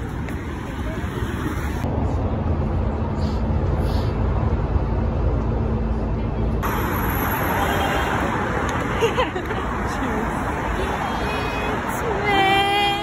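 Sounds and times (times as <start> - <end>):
hissy city noise: 0.0 - 13.0.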